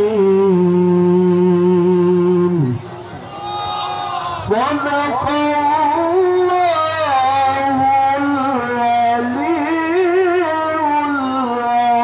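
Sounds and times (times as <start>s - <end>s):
man reciting melodically into microphone: 0.0s - 2.8s, 4.4s - 12.0s.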